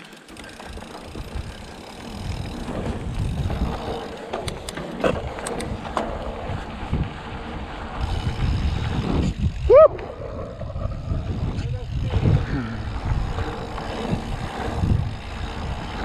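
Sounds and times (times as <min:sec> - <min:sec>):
bike rattles and knocks: 0:00.0 - 0:16.0
tyres rumbling on rough ground: 0:00.0 - 0:16.0
wind buffeting microphone: 0:00.4 - 0:16.0.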